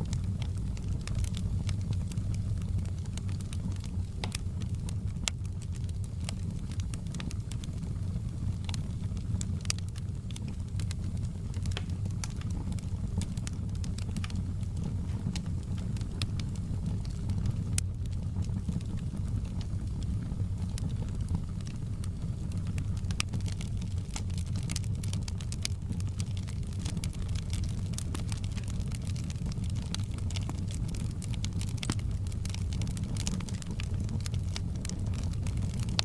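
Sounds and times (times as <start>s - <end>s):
fire popping and crackling: 0.0s - 36.0s
fire rumbling: 0.0s - 36.0s.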